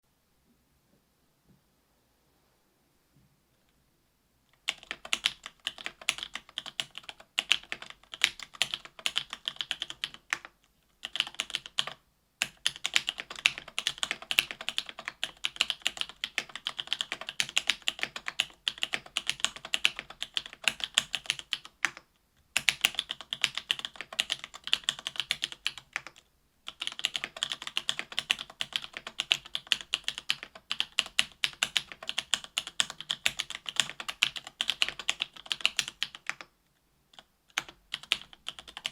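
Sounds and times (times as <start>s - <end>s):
mechanical keyboard typing: 4.6s - 36.5s, 37.1s - 38.9s.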